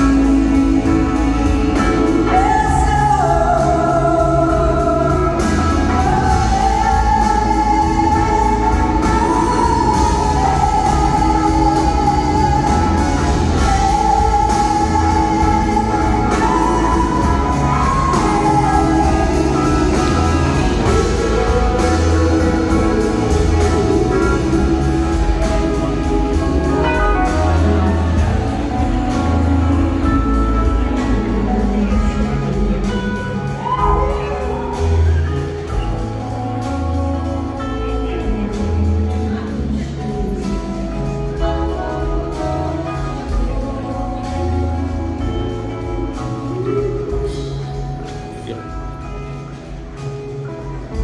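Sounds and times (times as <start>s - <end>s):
woman singing: 0.0s - 48.2s
drum kit beat: 0.0s - 51.0s
electric guitar: 0.0s - 51.0s.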